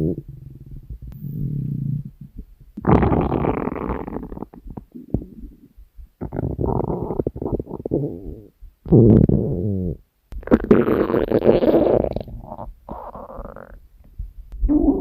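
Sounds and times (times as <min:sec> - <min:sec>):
stomach growling: 0:00.0 - 0:13.8.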